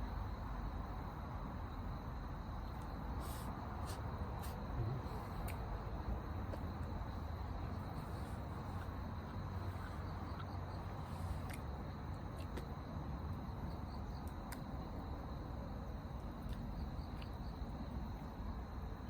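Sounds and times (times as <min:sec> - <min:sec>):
faint insect trill: 0:00.0 - 0:19.0.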